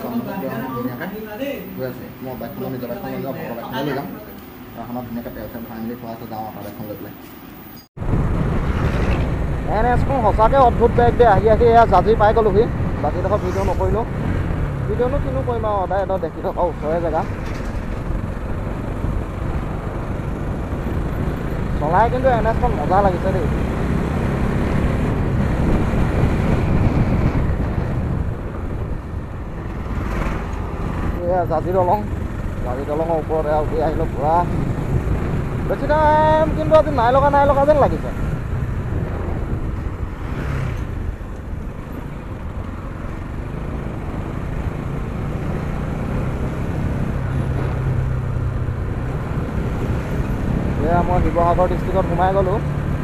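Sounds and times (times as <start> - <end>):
car passing close: 0.0 - 28.1, 29.2 - 53.0
motorcycle engine cruising: 0.0 - 53.0
wind rushing over microphone: 7.0 - 53.0.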